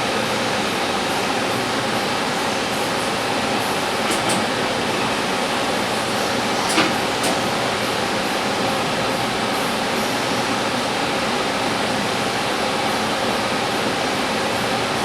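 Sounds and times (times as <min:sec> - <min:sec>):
lathe humming and whirring: 0:00.0 - 0:15.0.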